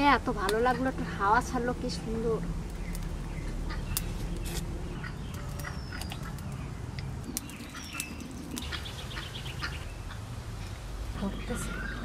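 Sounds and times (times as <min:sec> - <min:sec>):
low rumble of breeze: 0:00.0 - 0:12.0
small birds chirping: 0:00.1 - 0:12.0.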